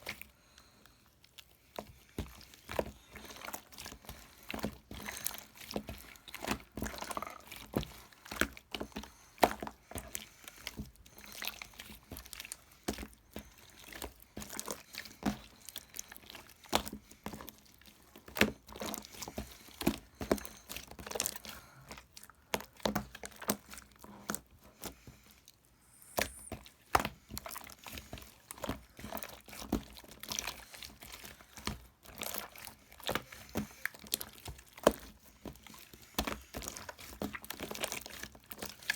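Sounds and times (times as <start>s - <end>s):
small clicks taps and crinkles: 0.0s - 38.9s.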